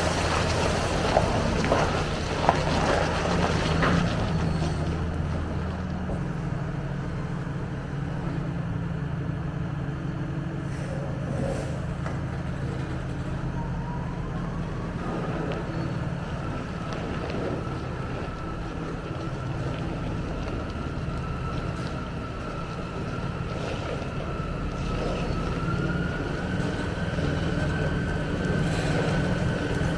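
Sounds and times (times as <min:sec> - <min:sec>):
diesel engine running under load: 0:00.0 - 0:29.9.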